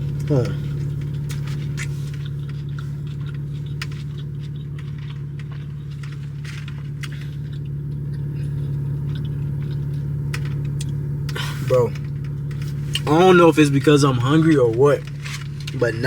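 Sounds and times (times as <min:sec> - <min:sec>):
clicks and rustles of eating: 0:00.0 - 0:16.0
steady low hum: 0:00.0 - 0:16.0.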